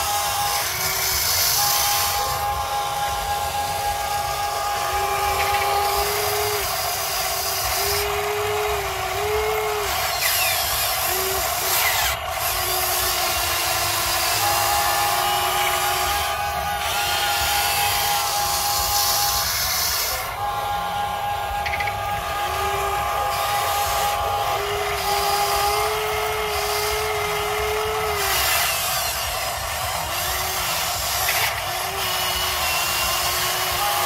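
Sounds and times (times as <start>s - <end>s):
toy excavator motors whining: 0.0s - 34.0s.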